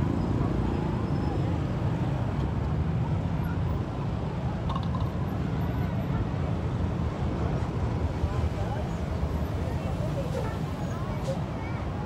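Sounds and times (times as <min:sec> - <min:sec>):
motorbike and car traffic rumble: 0:00.0 - 0:12.0.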